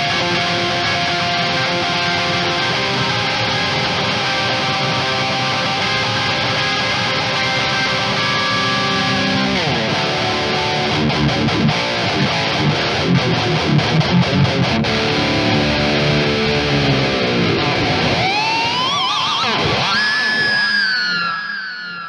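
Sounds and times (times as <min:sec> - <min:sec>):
distorted electric guitar riffs: 0:00.0 - 0:22.0
guitar high-pitched squeals: 0:00.0 - 0:22.0.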